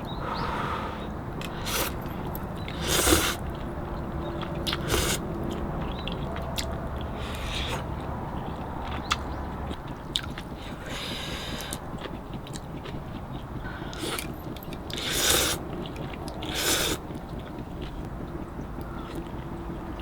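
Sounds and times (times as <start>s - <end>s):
person chewing crunchy food: 1.4s - 20.0s.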